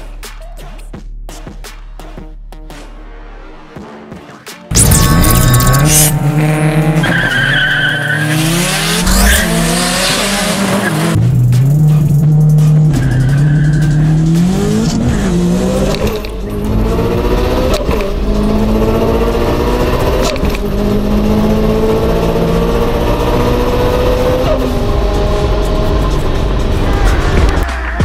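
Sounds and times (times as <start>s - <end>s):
car engine accelerating and shifting: 4.7s - 28.0s.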